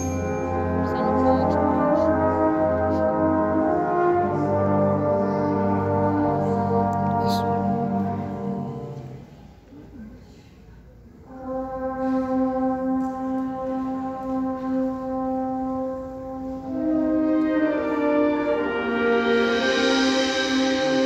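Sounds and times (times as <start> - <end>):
symphonic wind band playing: 0.0 - 9.2, 11.2 - 21.0.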